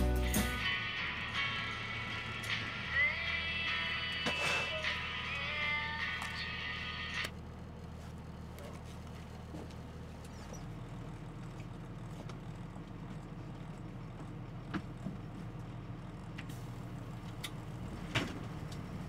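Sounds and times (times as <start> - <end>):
bus engine humming: 0.0 - 19.0.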